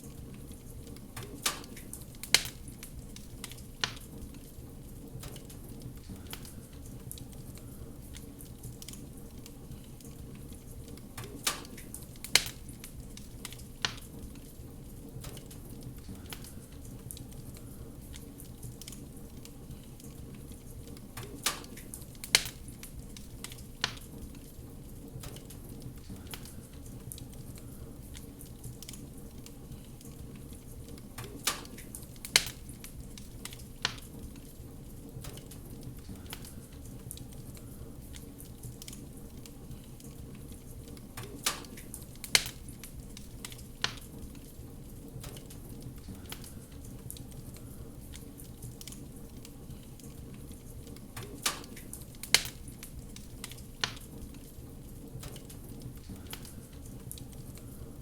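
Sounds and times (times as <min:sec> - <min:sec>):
wood fire crackling: 0:00.0 - 0:58.0
sharp pops of fire: 0:00.1 - 0:57.8.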